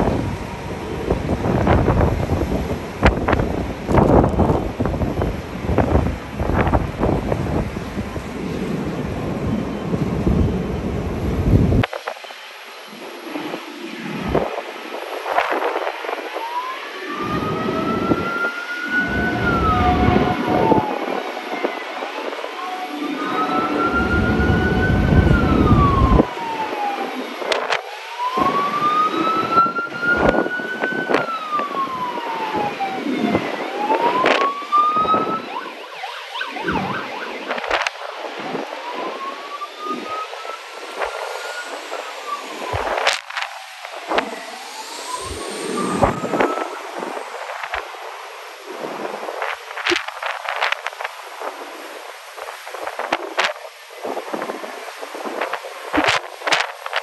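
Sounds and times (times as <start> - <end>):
siren wailing: 0.0 - 12.0, 12.9 - 51.6, 52.2 - 57.0
wind rumbling on microphone: 0.0 - 57.0.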